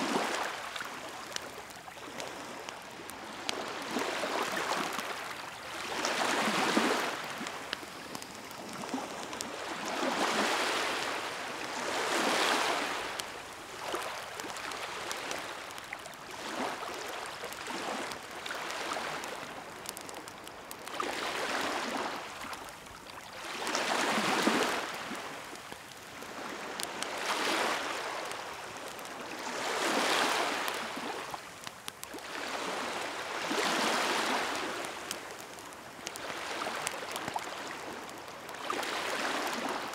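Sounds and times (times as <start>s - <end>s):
bonfire crackling: 0.0s - 39.9s
sea waves washing onto shore: 0.0s - 39.9s.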